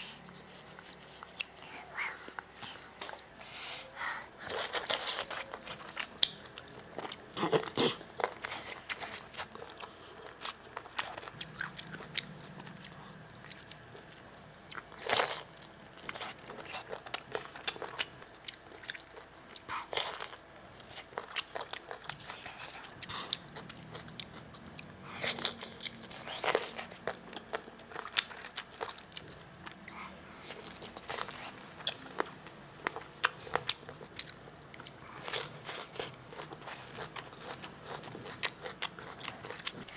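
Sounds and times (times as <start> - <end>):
chewing and mouth clicks: 4.5 - 39.9.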